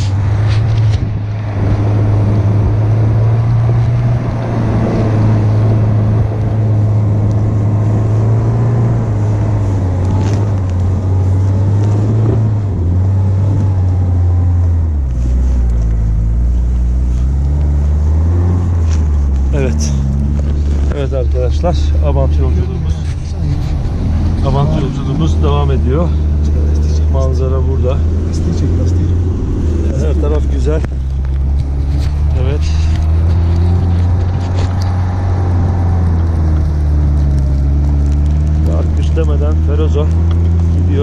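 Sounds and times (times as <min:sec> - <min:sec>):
car engine running under load: 0:00.0 - 0:41.0
tyres churning snow: 0:00.0 - 0:41.0.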